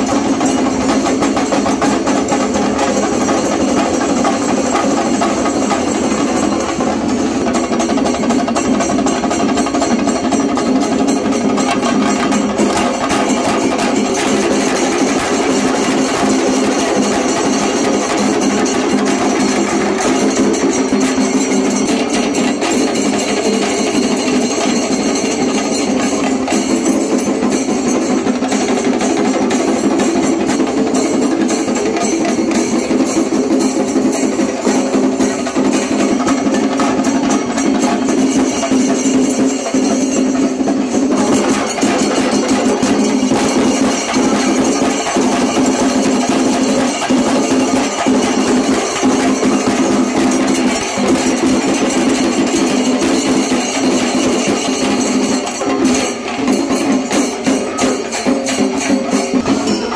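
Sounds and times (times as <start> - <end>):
drums beaten with sticks: 0.0 - 59.9
hand cymbals: 0.0 - 59.9.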